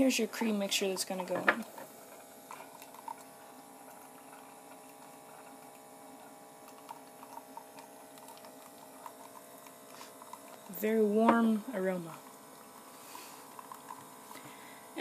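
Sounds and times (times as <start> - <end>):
coffee brewer humming: 0.0 - 15.0.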